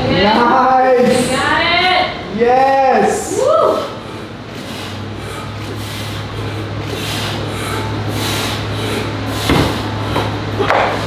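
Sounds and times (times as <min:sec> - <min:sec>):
room noise: 0:00.0 - 0:11.0
steady low hum: 0:00.0 - 0:11.0.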